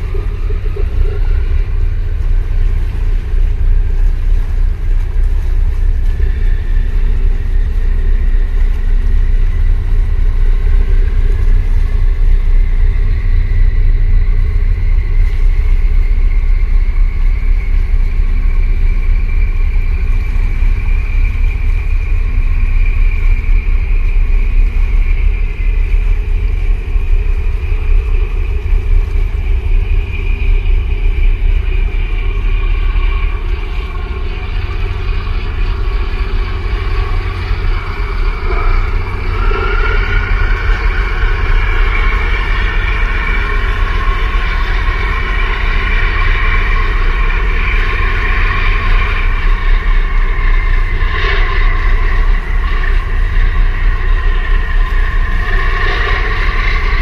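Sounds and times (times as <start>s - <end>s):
mechanical whine: 0.0s - 57.0s
tugboat engines droning: 0.0s - 57.0s
wind rumble on microphone: 0.0s - 57.0s.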